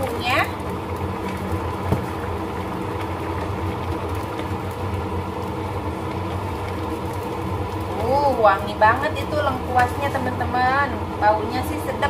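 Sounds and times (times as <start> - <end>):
low mechanical hum: 0.0 - 12.0
soup boiling: 0.0 - 12.0.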